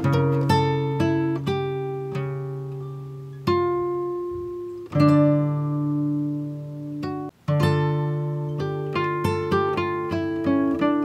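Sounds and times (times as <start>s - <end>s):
acoustic guitar slow chords: 0.0s - 11.0s.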